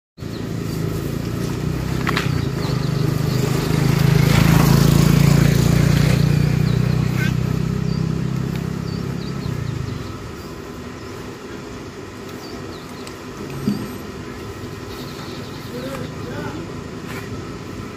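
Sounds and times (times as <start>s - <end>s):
motor engine humming: 0.2s - 17.9s.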